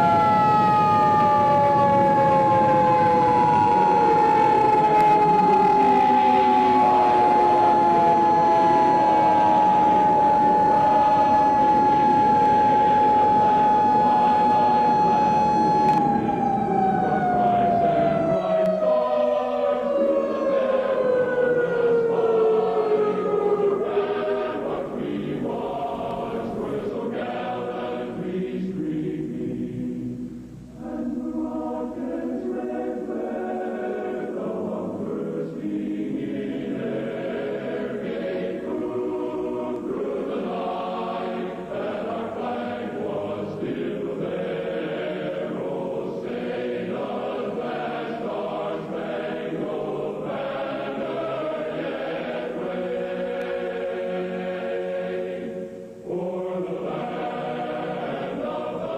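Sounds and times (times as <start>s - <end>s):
choir singing sustained chords: 0.0s - 58.9s.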